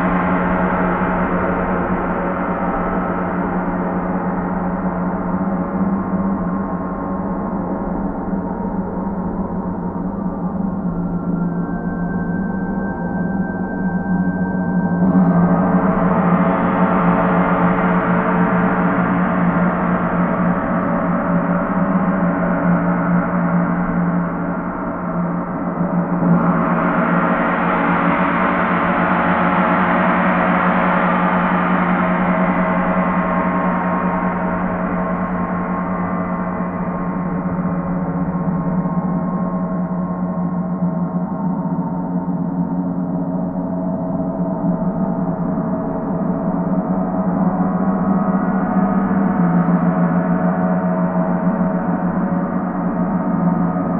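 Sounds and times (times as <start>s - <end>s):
gong sustained wash: 10.4s - 53.9s.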